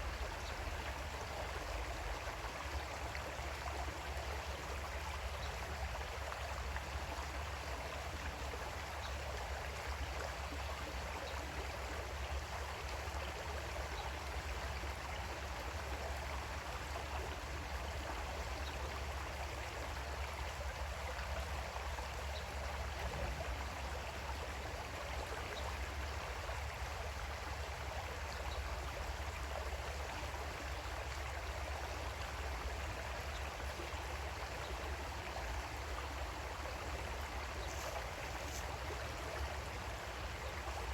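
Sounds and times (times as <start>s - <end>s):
creek water flowing over rocks: 0.0s - 40.9s.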